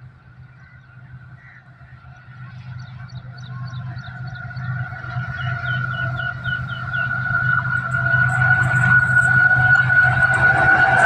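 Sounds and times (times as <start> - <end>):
faint steady whine: 0.0 - 11.0
locomotive low drone: 0.0 - 11.0.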